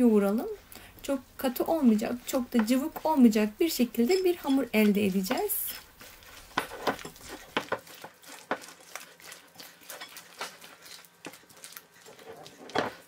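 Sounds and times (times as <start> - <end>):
hand squelching sticky mixture: 0.3 - 13.0.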